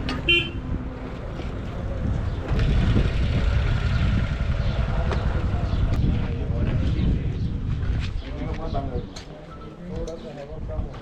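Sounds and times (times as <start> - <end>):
motorcycle engine and wind rumble: 0.0 - 9.2, 10.0 - 11.0.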